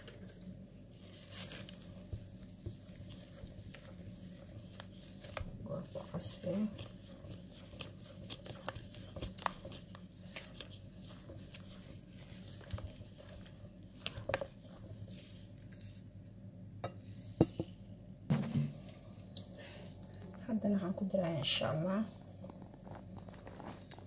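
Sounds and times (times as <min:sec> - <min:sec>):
batter sloshing in bowl: 0:00.0 - 0:19.1, 0:22.3 - 0:24.0.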